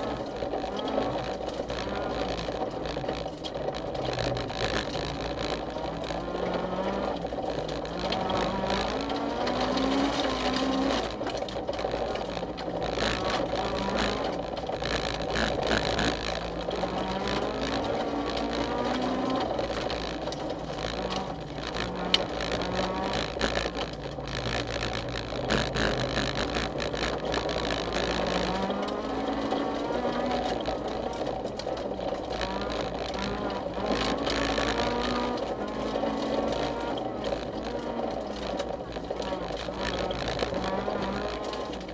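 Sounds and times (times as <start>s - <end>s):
rally car engine changing gear: 0.0s - 41.9s
road and gravel noise: 0.0s - 41.9s.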